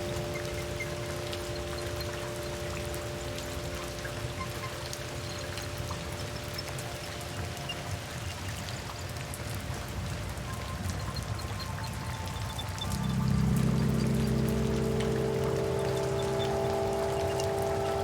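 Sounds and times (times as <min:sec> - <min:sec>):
raindrops falling close by: 0:00.0 - 0:18.0
soft held music tones: 0:00.0 - 0:18.0
steady rain: 0:00.0 - 0:18.0.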